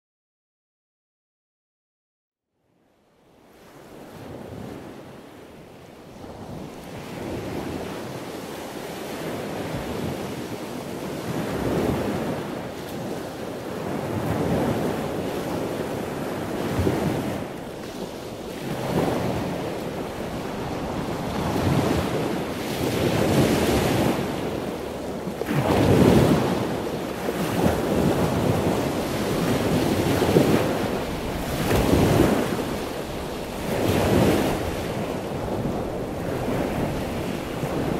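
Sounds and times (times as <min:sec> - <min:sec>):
waves washing in: 0:03.4 - 0:37.9.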